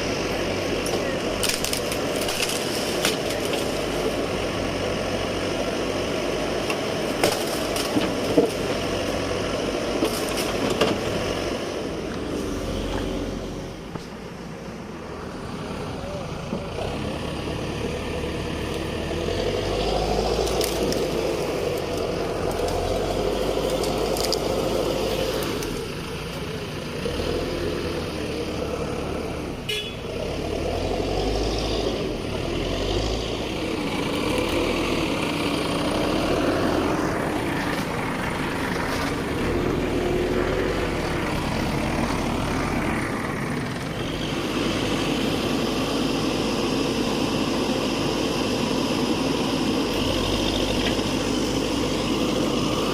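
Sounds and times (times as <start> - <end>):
diesel engine revving: 0.0 - 52.9.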